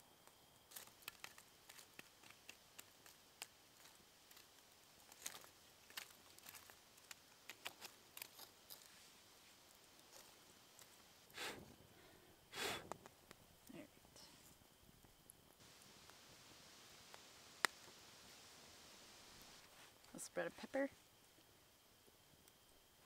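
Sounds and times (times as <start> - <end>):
fire embers crackling: 0.0 - 23.0
stick poking coals: 0.2 - 11.8, 12.5 - 20.8.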